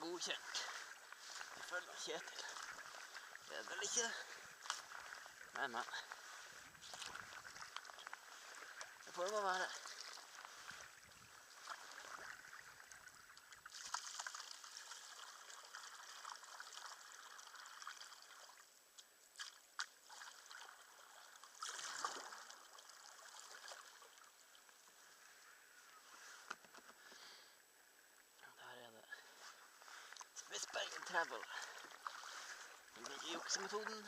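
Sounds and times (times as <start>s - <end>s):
paddle splashing water: 0.0s - 18.7s, 19.3s - 27.6s, 29.2s - 34.0s
water lapping at hull: 0.0s - 28.4s, 29.1s - 34.0s.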